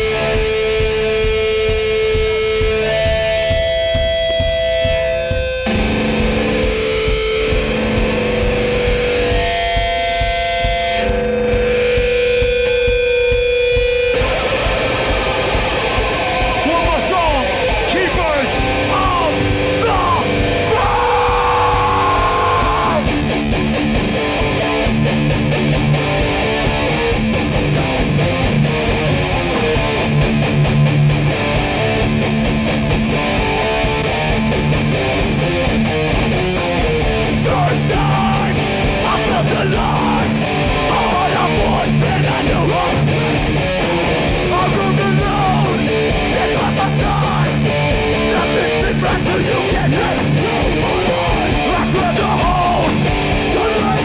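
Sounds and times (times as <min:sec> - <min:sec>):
bass guitar: 0:00.0 - 0:54.0
distorted electric guitars: 0:00.0 - 0:54.0
drums: 0:00.0 - 0:54.0.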